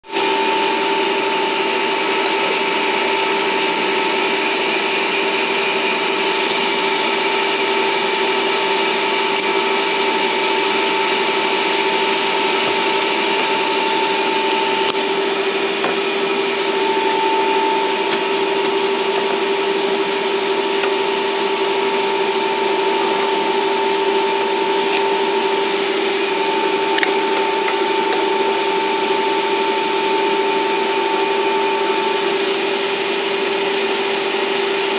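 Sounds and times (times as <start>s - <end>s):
gearbox whine: 0.0s - 34.9s
metal lathe humming: 0.0s - 34.9s.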